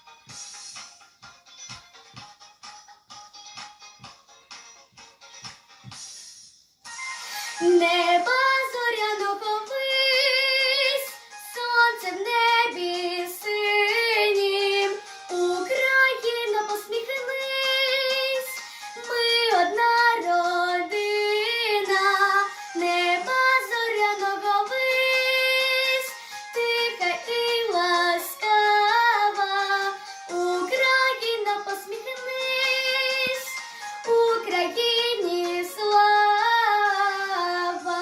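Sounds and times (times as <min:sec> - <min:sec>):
girl singing with vibrato: 0:07.4 - 0:38.0.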